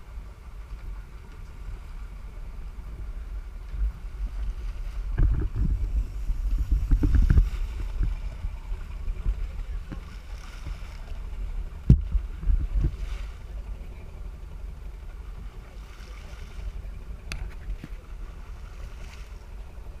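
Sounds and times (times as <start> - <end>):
water: 0.0 - 20.0
wind rumble: 0.0 - 20.0.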